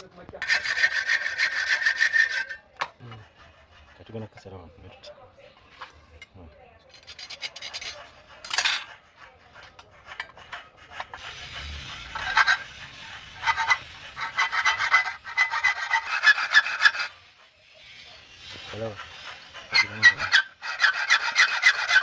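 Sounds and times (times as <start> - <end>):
saw rasping strokes: 0.4 - 4.6, 7.0 - 22.0.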